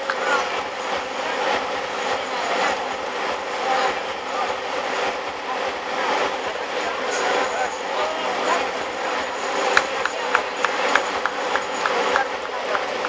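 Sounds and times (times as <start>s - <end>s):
faint distant voices: 0.0s - 13.0s
steady outdoor noise: 0.0s - 13.0s.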